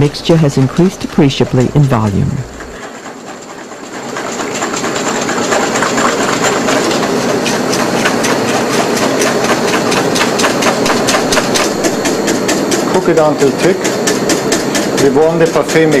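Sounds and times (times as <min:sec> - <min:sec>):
whisk beating in metal bowl: 0:00.0 - 0:16.0.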